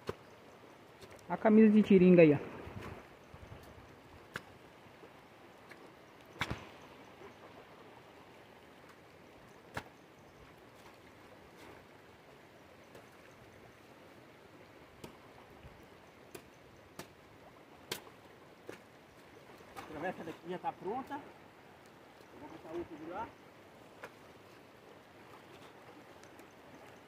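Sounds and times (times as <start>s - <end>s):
faint rush of water: 0.0s - 27.0s.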